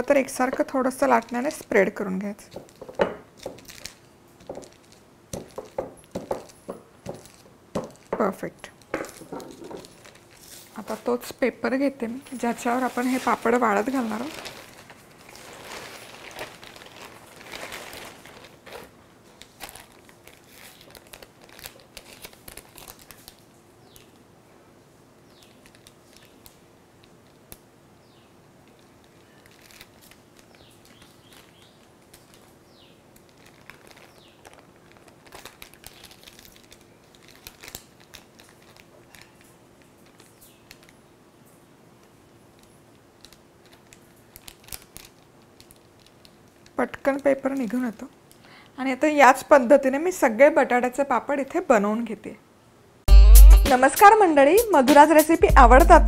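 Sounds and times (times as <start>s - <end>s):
plastic sheet crinkling: 0.0s - 24.3s, 25.3s - 27.6s, 28.6s - 41.0s, 41.9s - 48.0s.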